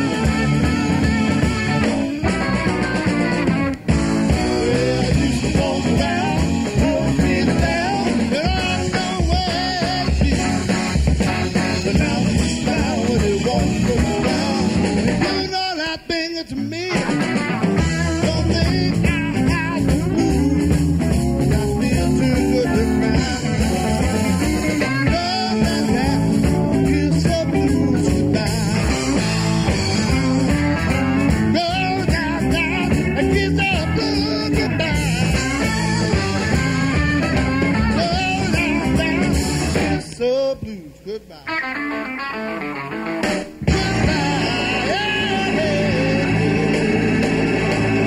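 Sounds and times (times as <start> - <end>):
blues-rock band playing: 0.0 - 48.0
electric guitars: 0.0 - 48.0
person singing: 4.1 - 41.5, 43.6 - 48.0.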